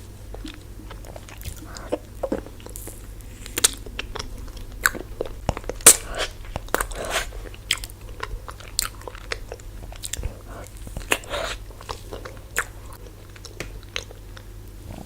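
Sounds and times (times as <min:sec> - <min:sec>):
biting and chewing ice cream bar: 0:00.2 - 0:15.0.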